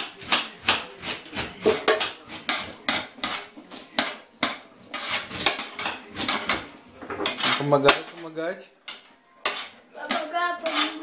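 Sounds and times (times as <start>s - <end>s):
metal spoon scraping metal tray: 0.2s - 11.0s.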